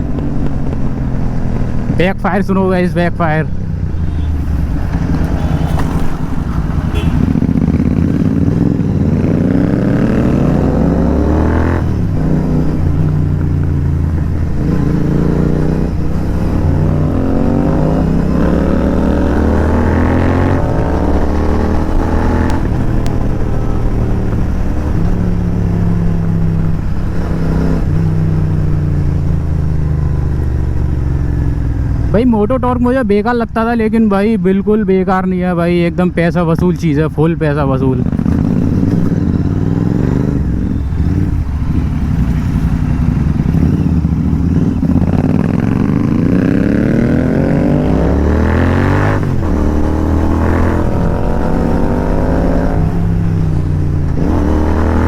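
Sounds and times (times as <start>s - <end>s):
motorcycle accelerating: 0.0s - 34.5s, 35.6s - 55.0s.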